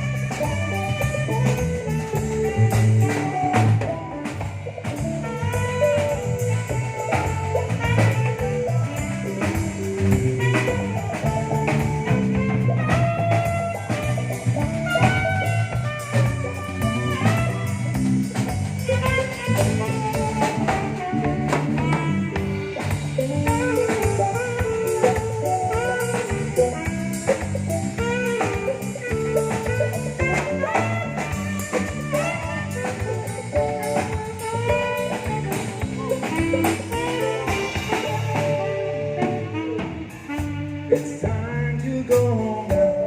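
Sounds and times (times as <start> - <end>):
bass guitar: 0.0 - 43.0
drum kit: 0.0 - 43.0
electric guitar lead with bending notes: 0.0 - 43.0.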